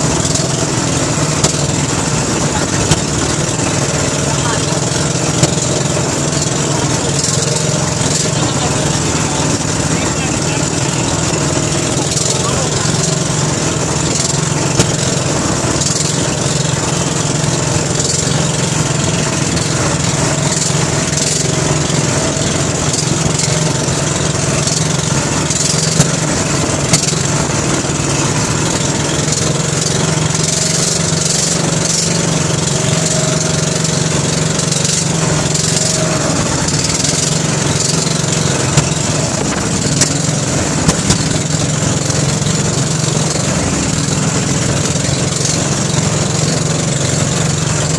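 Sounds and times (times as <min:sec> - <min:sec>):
hull knocking on waves: 0:00.0 - 0:47.2
boat motor running steadily: 0:00.0 - 0:47.9.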